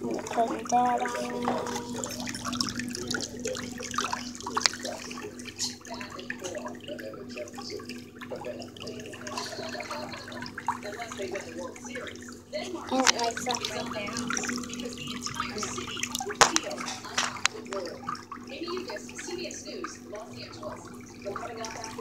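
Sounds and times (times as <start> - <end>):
steady low hum: 0.0 - 22.0
water churning and splashing: 0.0 - 22.0.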